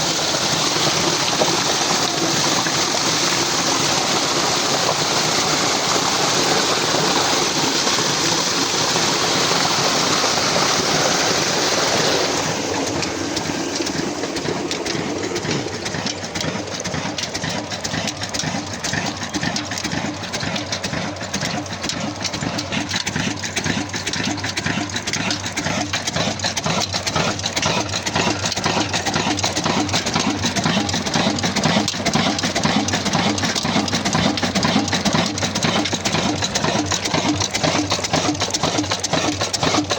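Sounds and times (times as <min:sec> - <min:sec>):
diesel engine chugging: 0:00.0 - 0:39.9
rush of pumped water: 0:00.0 - 0:39.9.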